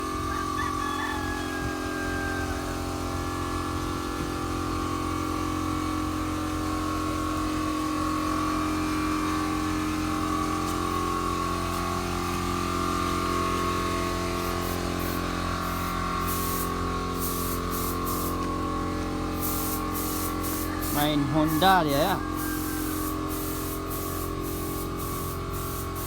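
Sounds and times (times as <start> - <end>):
motor running steadily: 0.0 - 26.0.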